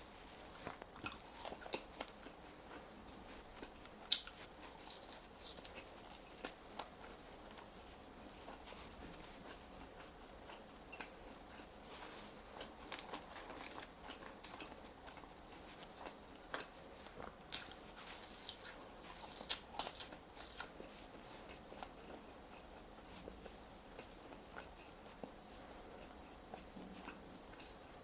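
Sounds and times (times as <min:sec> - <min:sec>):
crunchy chewing of fries: 0:00.0 - 0:28.0.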